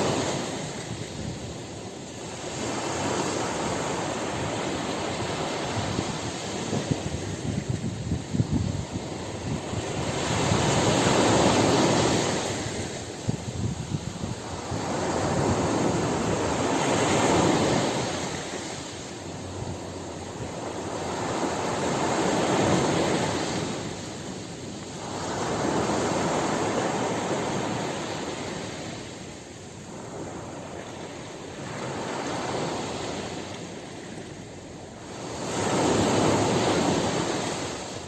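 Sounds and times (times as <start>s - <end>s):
waves breaking: 0.0s - 38.0s.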